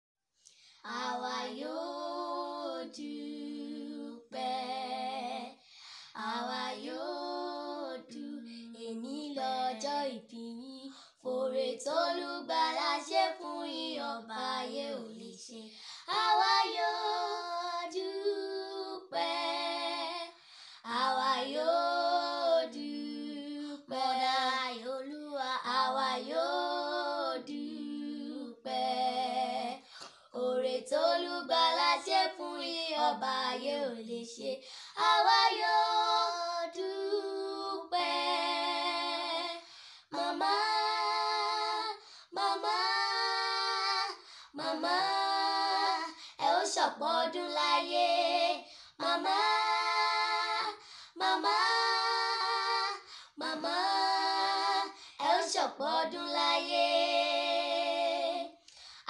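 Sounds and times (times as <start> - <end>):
girls singing unaccompanied: 0.9 - 58.6.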